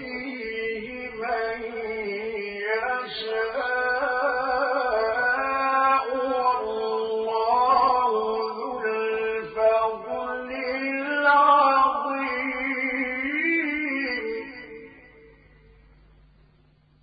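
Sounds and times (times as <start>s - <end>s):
man reciting melodically: 0.0s - 16.1s.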